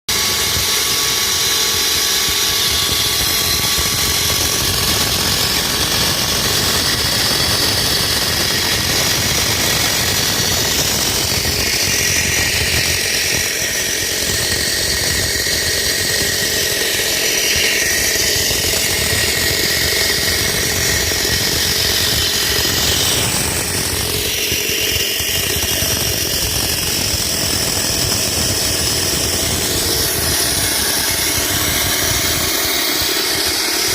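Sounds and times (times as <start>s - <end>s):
concrete saw cutting: 0.1s - 33.9s.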